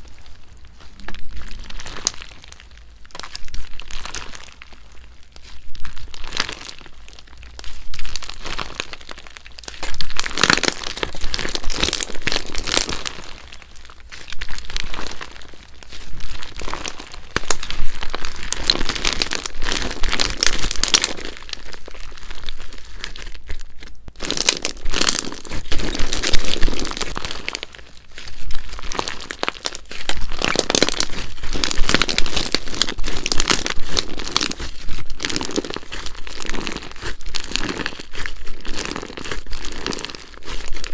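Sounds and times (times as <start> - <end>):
slime crackling being kneaded: 0.0 - 40.9.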